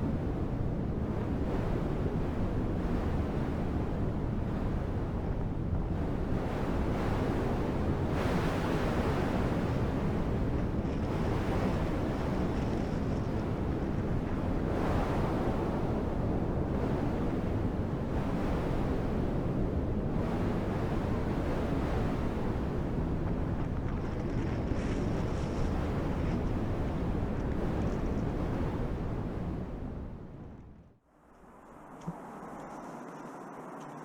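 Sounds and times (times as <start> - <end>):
wind blowing across microphone: 0.0 - 31.0.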